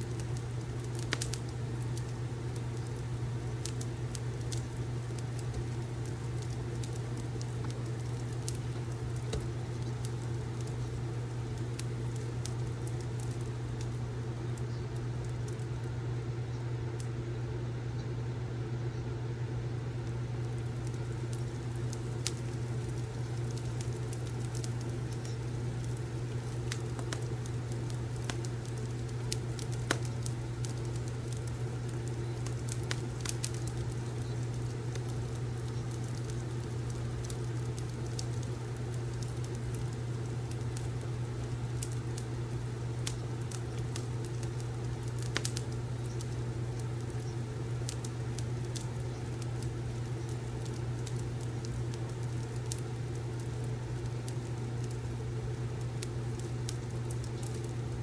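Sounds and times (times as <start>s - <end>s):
fireplace crackling and popping: 0.0s - 17.6s, 19.3s - 58.0s
steady low hum: 0.0s - 58.0s.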